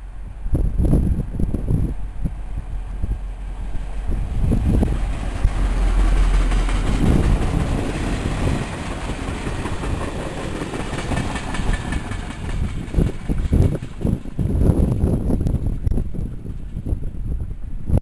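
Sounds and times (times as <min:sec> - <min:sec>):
train wheels rumbling on rail: 0:00.0 - 0:17.8.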